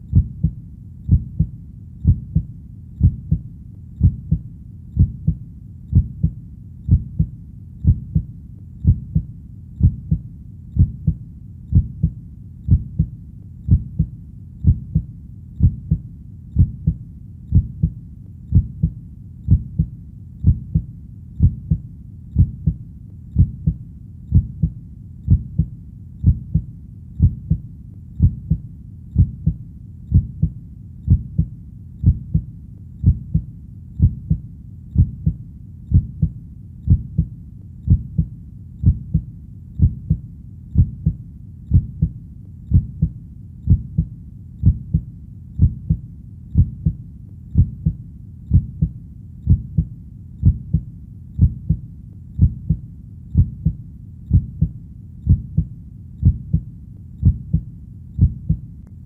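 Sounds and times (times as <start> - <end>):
heartbeat thuds: 0.0 - 16.0, 16.6 - 27.6, 28.2 - 51.8, 52.4 - 58.7
faint low hum: 0.0 - 59.0.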